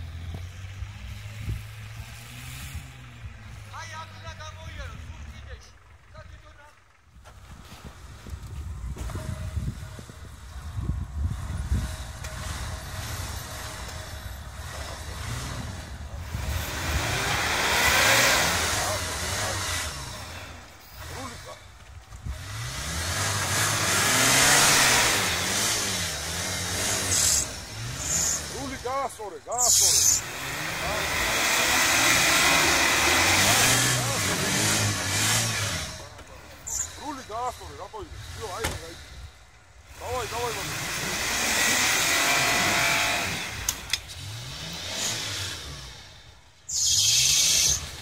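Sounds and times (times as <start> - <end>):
engines revving hard: 0.0 - 48.0
spinning tyres churning snow: 0.0 - 48.0.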